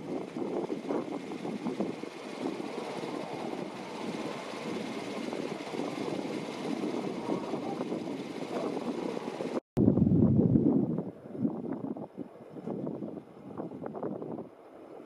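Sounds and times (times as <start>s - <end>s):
jet airliner engine noise: 0.0s - 15.0s.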